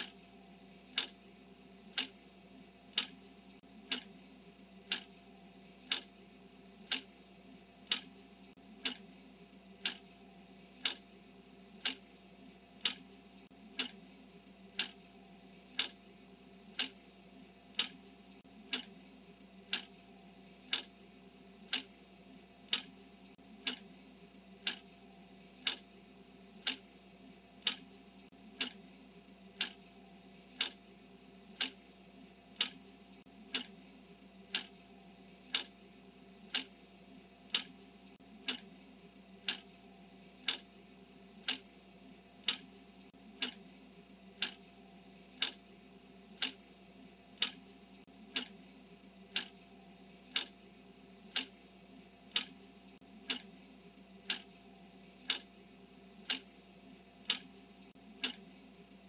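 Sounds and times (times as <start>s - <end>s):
clock ticking: 0.0s - 1.3s, 1.9s - 4.2s, 4.8s - 6.2s, 6.8s - 14.1s, 14.7s - 19.0s, 19.6s - 26.0s, 26.6s - 33.8s, 34.4s - 35.8s, 36.4s - 45.6s, 46.3s - 50.6s, 51.2s - 58.6s
faint steady hum: 0.0s - 59.0s.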